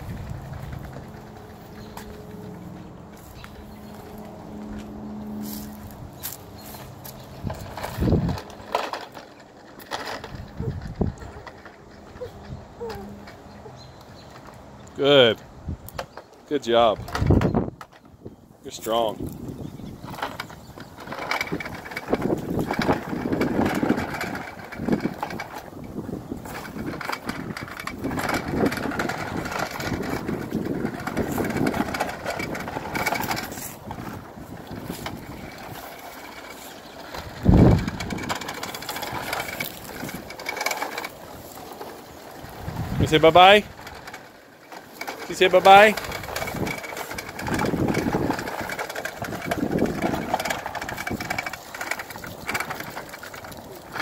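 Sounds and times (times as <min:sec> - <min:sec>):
plastic wheels rattling over concrete: 0:00.0 - 0:54.0.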